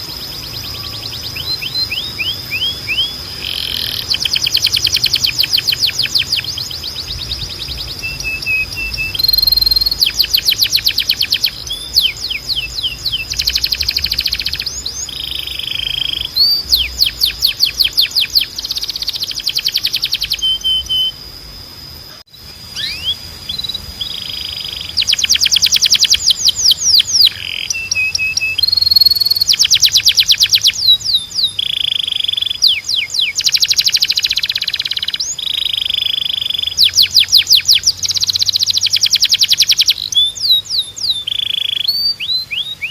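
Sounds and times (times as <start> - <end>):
canary singing: 0.0 - 42.9
thin steady high tone: 0.0 - 42.9.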